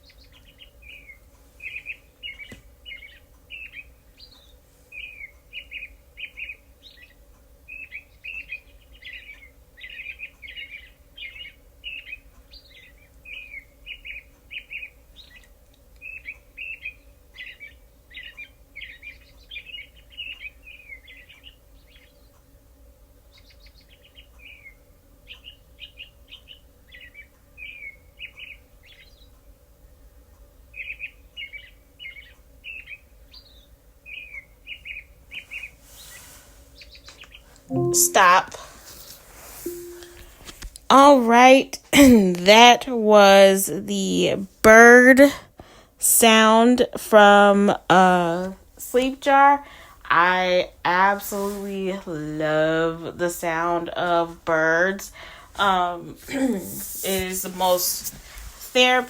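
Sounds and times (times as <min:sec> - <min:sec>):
birds chirping through a speaker: 0:00.0 - 0:22.5, 0:23.2 - 0:29.5, 0:30.6 - 0:45.3, 0:46.0 - 0:55.9
faint steady hum: 0:00.0 - 0:59.0.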